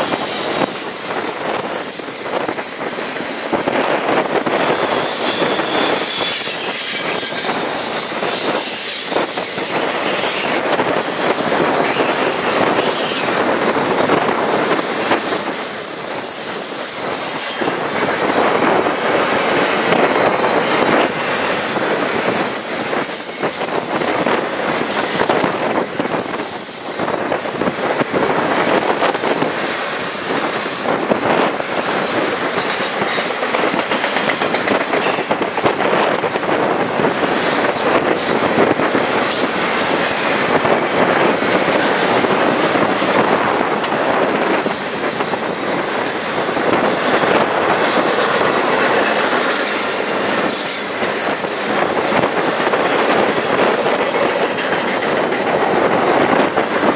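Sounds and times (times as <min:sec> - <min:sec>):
high wheel squeal: 0:00.0 - 0:18.5, 0:21.3 - 0:40.8, 0:41.6 - 0:56.4
steel wheels clattering on rails: 0:00.0 - 0:56.9.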